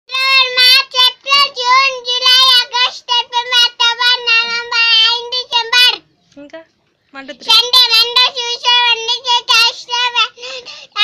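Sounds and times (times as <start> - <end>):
girl singing: 0.1 - 6.2, 7.3 - 11.0.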